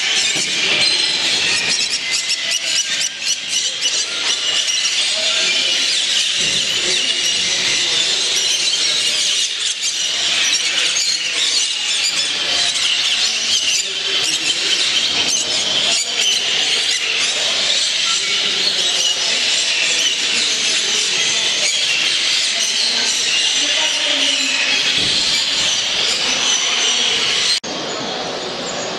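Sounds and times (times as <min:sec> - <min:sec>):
caged birds chirping: 0:00.0 - 0:28.9.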